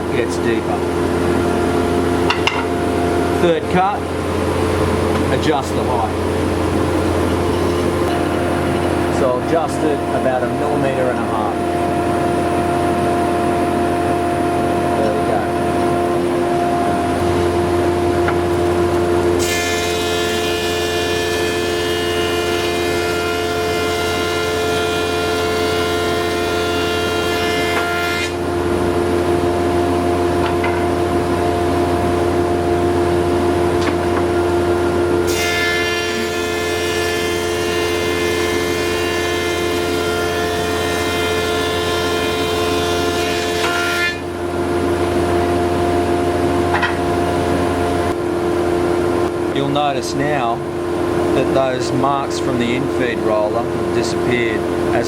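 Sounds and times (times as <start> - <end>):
planer whining cutting wood: 0.0 - 46.4
thickness planer motor hum: 0.0 - 55.0.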